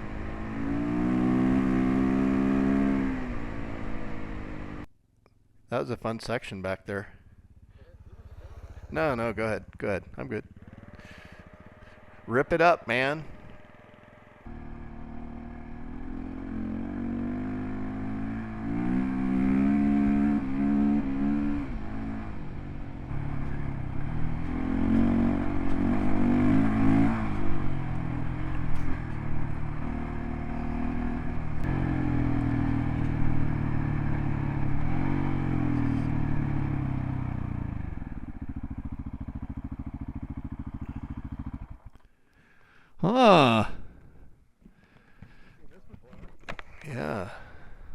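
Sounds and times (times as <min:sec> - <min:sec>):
motorcycle engine revving: 0:00.0 - 0:04.9, 0:07.1 - 0:44.0.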